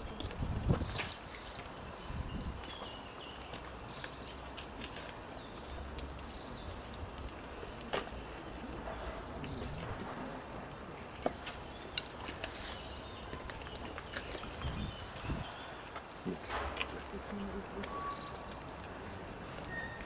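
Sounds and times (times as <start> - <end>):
faint low outdoor rumble: 0.0 - 20.0
songbird singing: 0.0 - 20.0.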